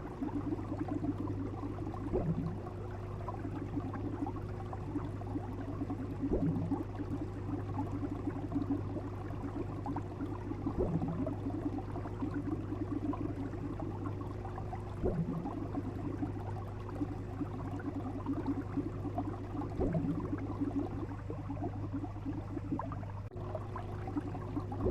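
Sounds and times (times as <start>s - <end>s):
steady low hum: 0.0s - 24.9s
water bubbling and gurgling: 0.0s - 24.9s.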